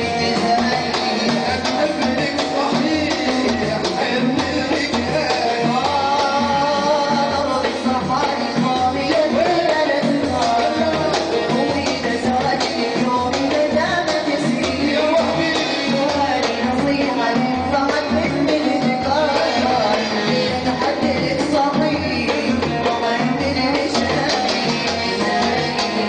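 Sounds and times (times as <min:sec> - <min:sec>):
oud and keyboard melody: 0:00.0 - 0:26.0
percussion troupe drumming: 0:00.0 - 0:26.0.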